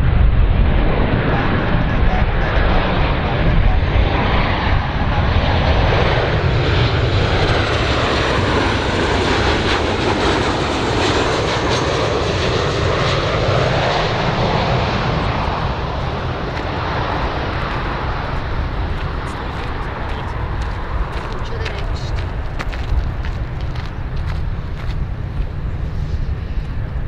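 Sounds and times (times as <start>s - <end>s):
jet engines drone: 0.0s - 27.0s.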